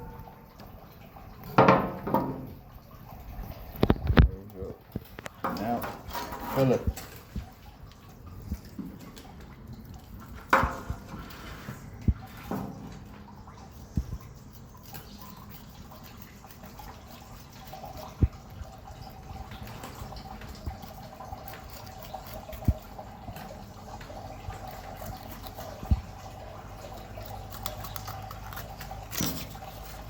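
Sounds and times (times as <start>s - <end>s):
water filling a container: 0.0s - 30.0s.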